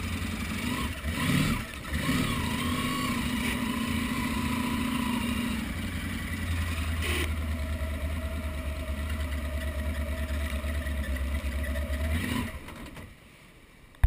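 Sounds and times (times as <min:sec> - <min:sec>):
boat engine humming: 0:00.0 - 0:12.1.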